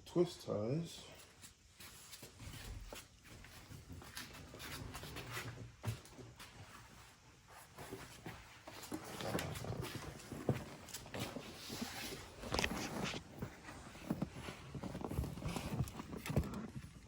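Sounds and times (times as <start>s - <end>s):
rustling of wiring and ties: 1.1s - 17.0s.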